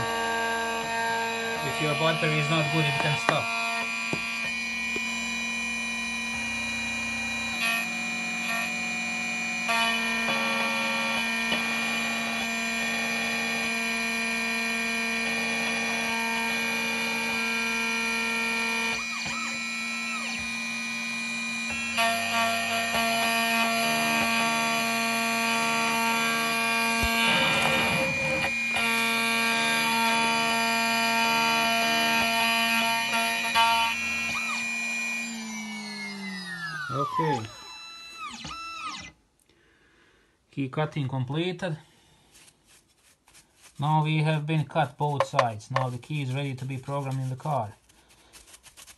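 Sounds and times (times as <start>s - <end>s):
key cutting machine motor whining: 0.0s - 39.2s.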